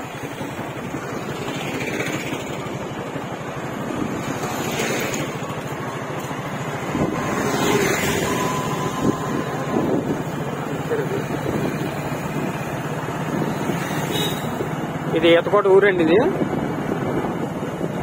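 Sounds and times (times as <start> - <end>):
road and wind noise: 0.0 - 18.0
vehicle engine running: 0.0 - 18.0.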